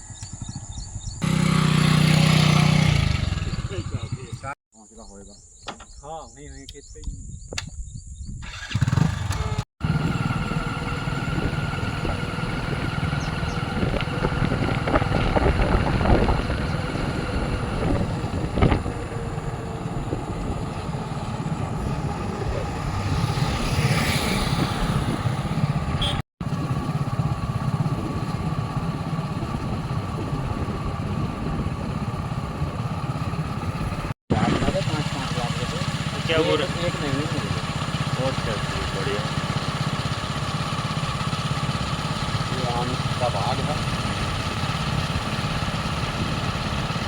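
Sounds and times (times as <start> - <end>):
motorcycle engine rumbling: 0.0 - 47.0.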